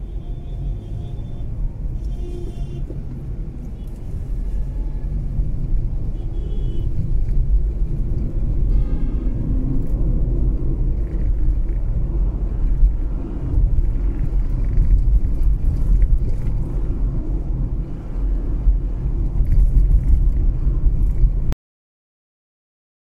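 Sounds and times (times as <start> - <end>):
car road and engine rumble: 0.0 - 21.6.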